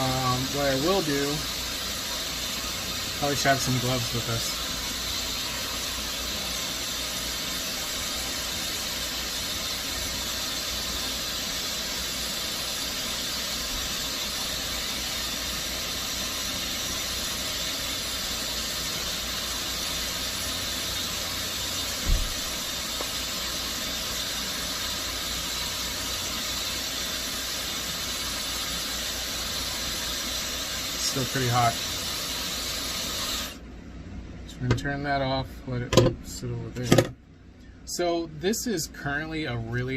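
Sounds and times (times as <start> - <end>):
hairdryer blowing: 0.0 - 33.6.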